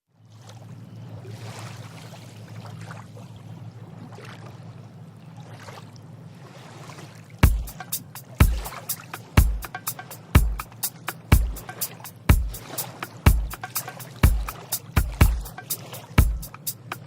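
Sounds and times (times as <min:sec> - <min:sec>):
water splashing along boat hull: 0:00.3 - 0:17.0.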